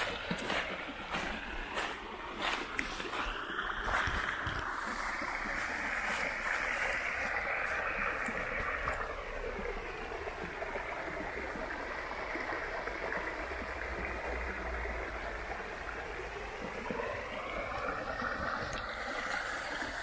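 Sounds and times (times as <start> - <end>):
river water rushing over stones: 0.0 - 20.0.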